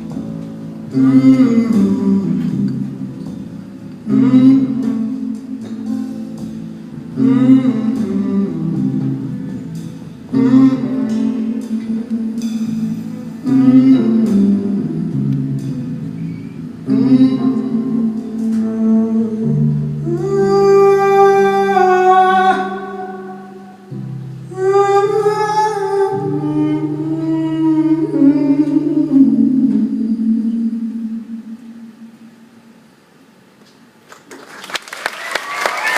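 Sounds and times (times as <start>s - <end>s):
guitar playing: 0.0s - 32.4s
person singing wordless notes: 0.8s - 32.7s.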